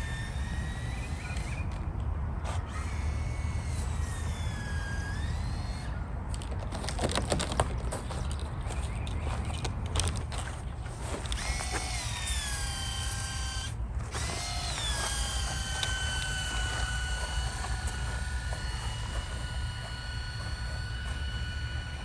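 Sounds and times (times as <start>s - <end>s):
small motor whining: 0.0s - 22.0s.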